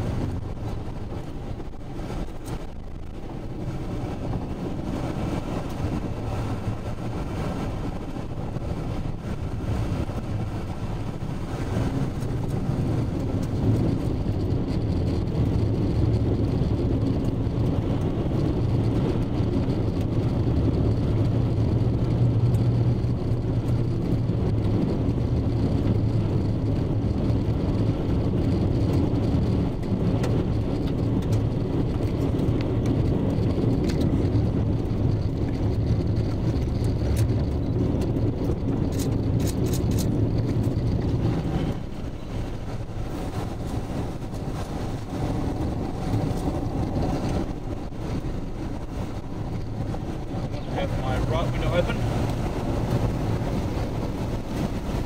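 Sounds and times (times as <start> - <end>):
vehicle road noise rumble: 0.0 - 55.0.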